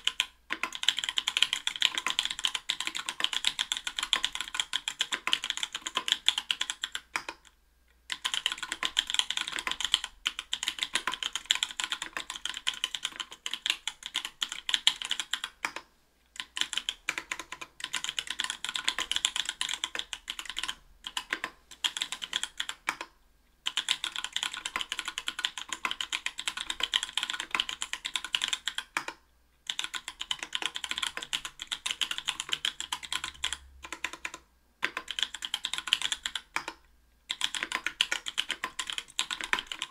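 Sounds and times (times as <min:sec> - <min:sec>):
fast typing on mechanical keyboard: 0:00.0 - 0:07.5, 0:08.1 - 0:15.8, 0:16.4 - 0:23.1, 0:23.7 - 0:39.9.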